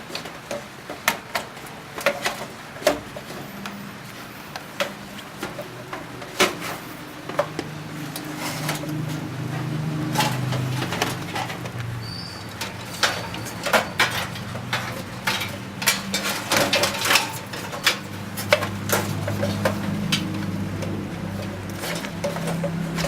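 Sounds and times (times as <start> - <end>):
computer case parts clicking: 0.0 - 23.0.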